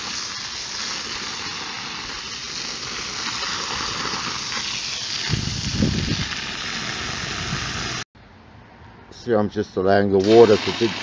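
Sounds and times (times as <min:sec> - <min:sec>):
hose spraying water into sand: 0:00.0 - 0:08.0, 0:10.2 - 0:11.0.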